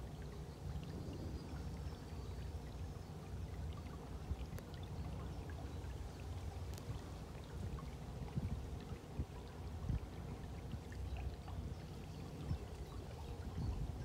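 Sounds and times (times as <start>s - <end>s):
boat engine low rumble: 0.0s - 14.0s
water splashing along hull: 0.0s - 14.0s.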